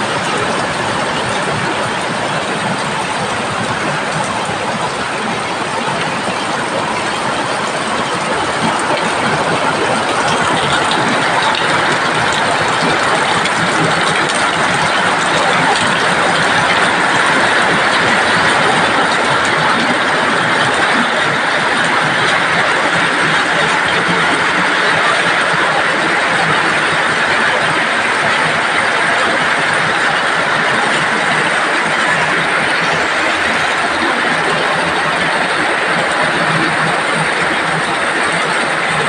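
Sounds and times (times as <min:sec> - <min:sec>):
heavy rain pouring: 0:00.0 - 0:39.0.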